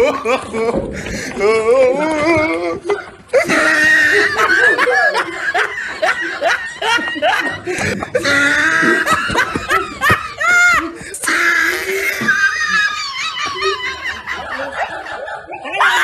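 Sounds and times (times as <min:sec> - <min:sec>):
people laughing: 0:00.0 - 0:16.0.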